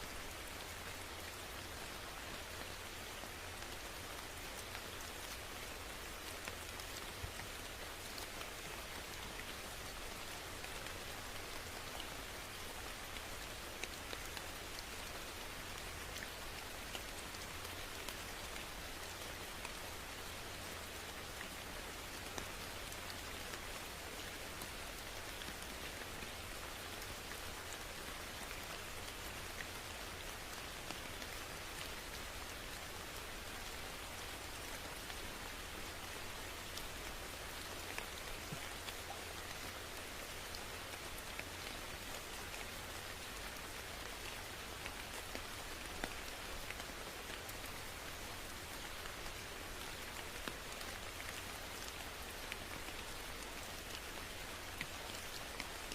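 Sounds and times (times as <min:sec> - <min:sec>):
rain falling: 0:00.0 - 0:55.9
raindrops ticking on a surface: 0:00.0 - 0:55.9.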